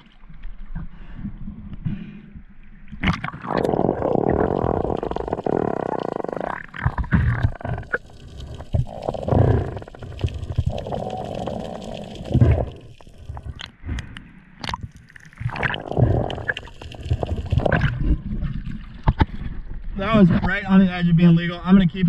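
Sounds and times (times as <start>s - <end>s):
underwater gurgling and sloshing: 0.0s - 22.0s.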